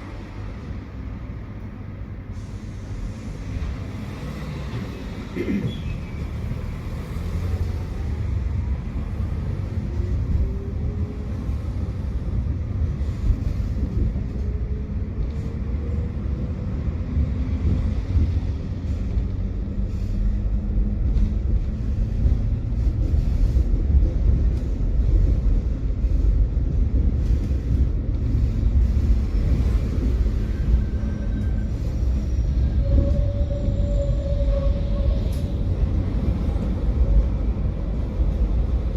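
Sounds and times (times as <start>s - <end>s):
tram rumbling on rails: 0.0s - 38.9s.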